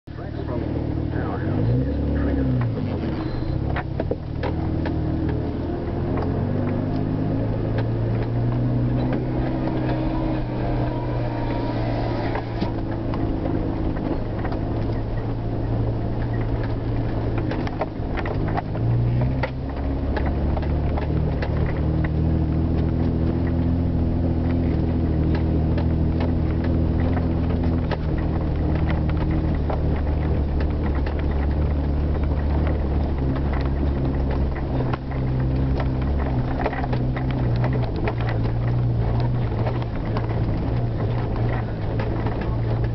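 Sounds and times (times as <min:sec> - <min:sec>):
vehicle engine under load: 0:00.0 - 0:42.9
knocks and rattles from bumps: 0:02.6 - 0:42.9.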